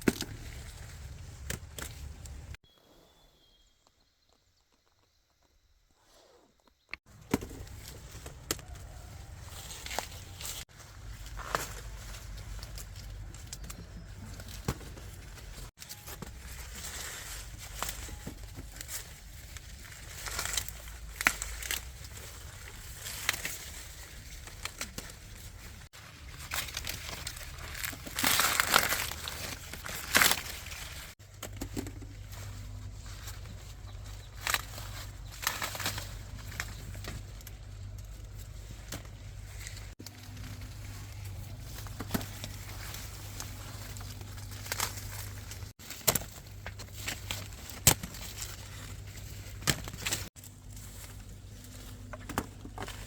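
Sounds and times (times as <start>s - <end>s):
dry corn plants rustling: 0.0s - 53.0s.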